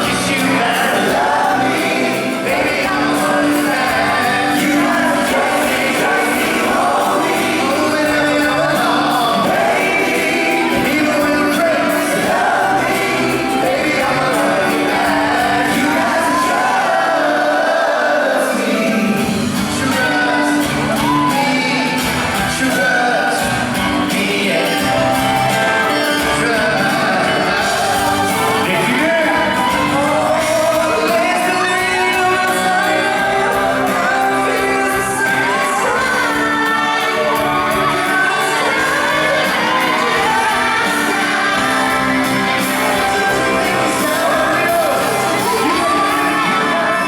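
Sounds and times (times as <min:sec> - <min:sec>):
band accompaniment: 0:00.0 - 0:47.0
fans shouting and whooping: 0:00.0 - 0:47.0
vocal group singing: 0:00.0 - 0:47.0.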